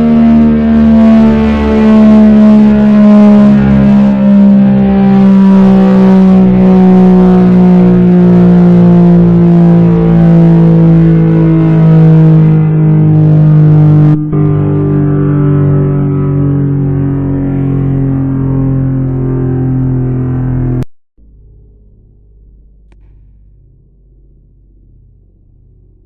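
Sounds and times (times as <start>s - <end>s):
warning siren winding down: 0.0s - 22.6s
dull low siren tone falling: 0.0s - 26.0s.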